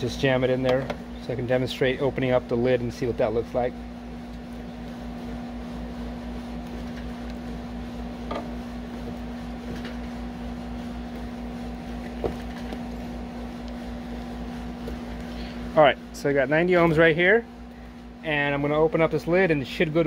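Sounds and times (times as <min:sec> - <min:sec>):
mechanical hum with held tone: 0:00.0 - 0:20.0.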